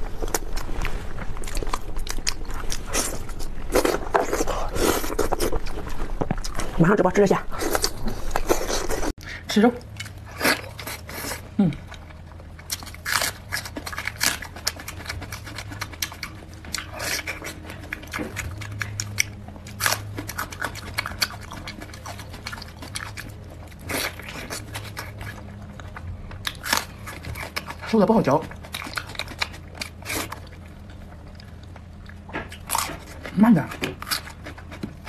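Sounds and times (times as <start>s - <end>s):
wet chewing mouth sounds: 0.0s - 6.8s, 10.0s - 35.0s
low steady hum: 0.0s - 35.0s.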